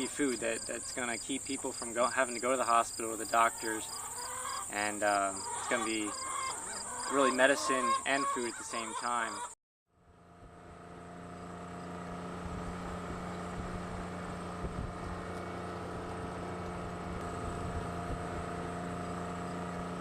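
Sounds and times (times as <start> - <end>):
engine humming steadily: 0.0 - 20.0.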